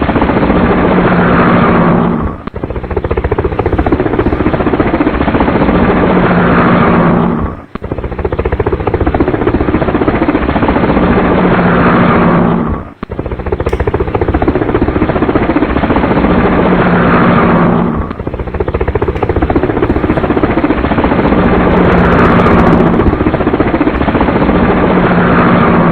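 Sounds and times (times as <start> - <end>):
engine drone: 0.0 - 25.9
helicopter rotor chop: 0.0 - 25.9.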